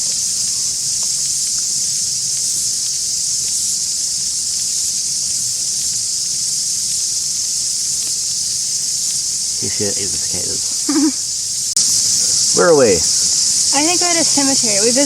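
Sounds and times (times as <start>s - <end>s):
cicadas shrilling: 0.0s - 15.0s.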